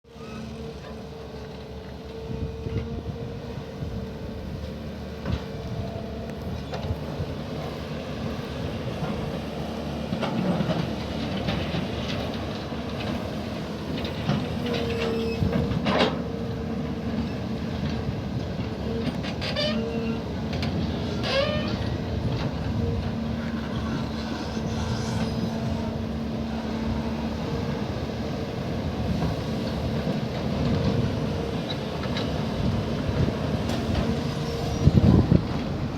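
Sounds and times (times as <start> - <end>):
diesel machinery running: 0.1 - 35.9
machinery whine: 0.1 - 35.9.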